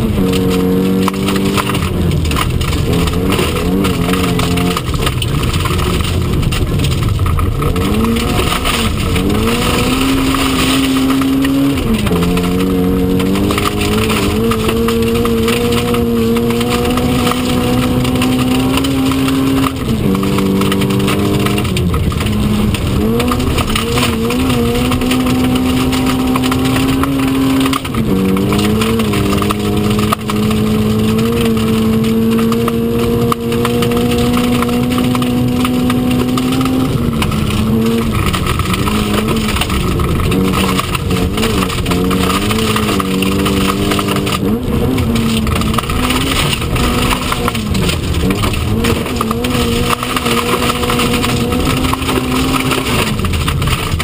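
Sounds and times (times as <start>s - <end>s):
gravel and tyre noise: 0.0s - 54.0s
rally car engine at full throttle: 0.0s - 54.0s.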